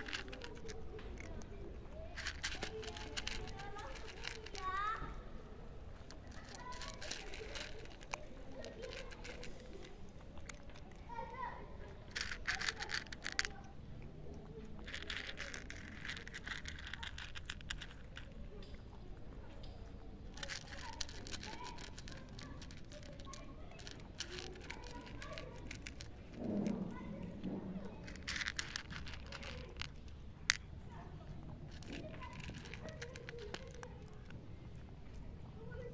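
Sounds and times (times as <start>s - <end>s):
cat crunching dry kibble: 0.0s - 35.9s.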